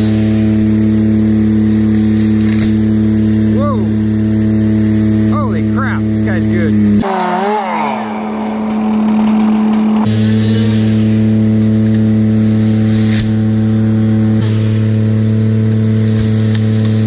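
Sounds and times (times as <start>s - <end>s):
large engine deep hum: 0.0s - 17.0s.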